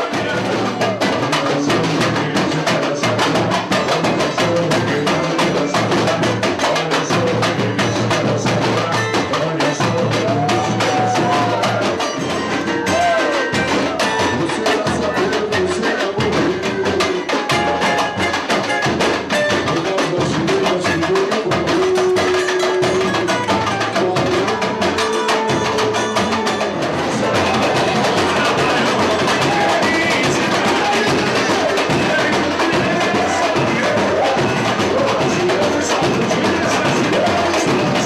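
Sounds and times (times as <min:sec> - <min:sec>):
samba percussion: 0:00.0 - 0:38.0.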